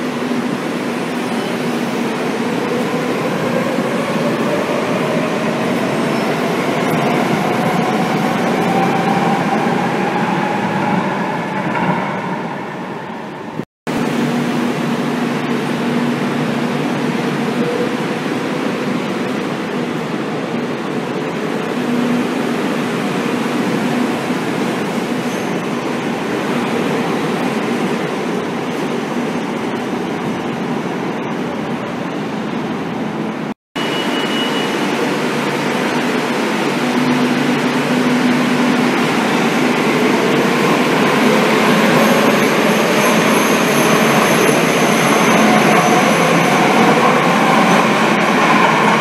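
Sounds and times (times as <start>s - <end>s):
train rumble and rail noise: 0.0s - 49.0s.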